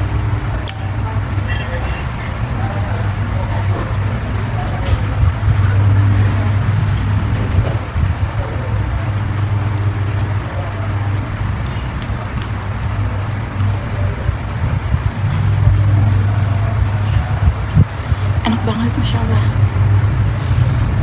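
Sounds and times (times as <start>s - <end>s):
steady low hum: 0.0s - 21.0s
chewing raw vegetables: 0.6s - 18.4s.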